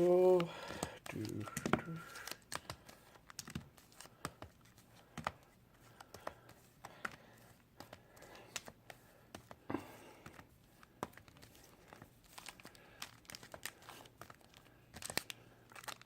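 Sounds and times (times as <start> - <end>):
foil wrappers and cardboard crinkling: 0.0 - 9.2, 9.8 - 16.0.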